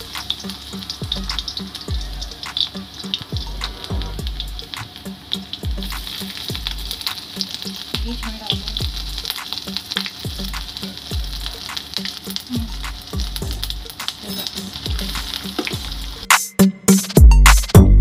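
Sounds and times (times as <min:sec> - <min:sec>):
background music with bass beat: 0:00.0 - 0:07.1, 0:07.9 - 0:18.0
oil sizzling and crackling: 0:00.0 - 0:17.7.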